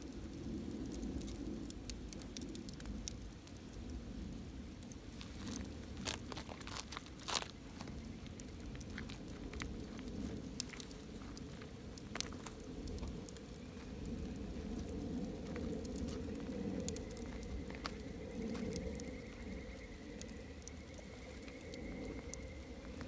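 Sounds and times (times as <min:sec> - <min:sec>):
burning wood crackling and popping: 0:00.0 - 0:23.0
campfire flames rushing: 0:00.0 - 0:23.0.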